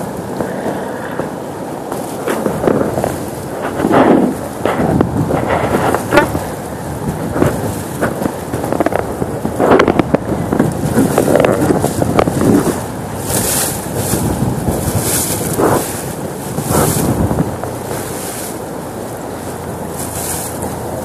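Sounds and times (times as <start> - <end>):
river water rushing: 0.0 - 21.0
wind buffeting microphone: 0.0 - 21.0.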